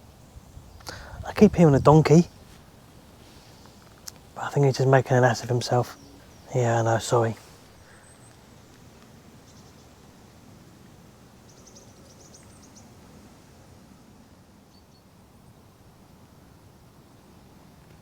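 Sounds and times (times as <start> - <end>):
faint woodland ambience: 0.0 - 18.0.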